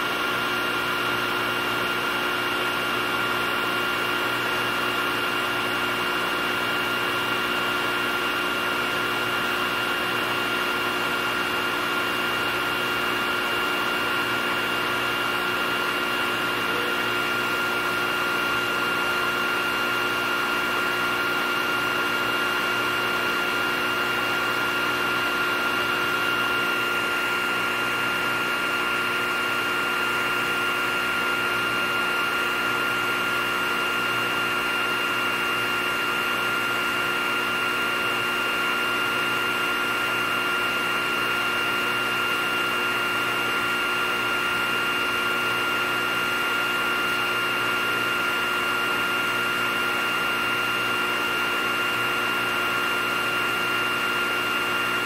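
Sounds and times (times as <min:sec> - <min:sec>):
hot-air blower rushing and whining: 0:00.0 - 0:55.0.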